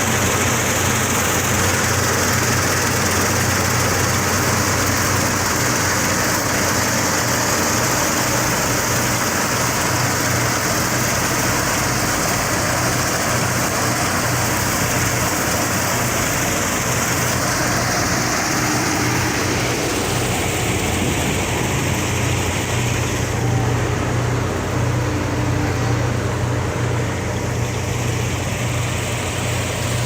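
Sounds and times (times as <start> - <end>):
combine harvester engine hum: 0.0 - 30.0.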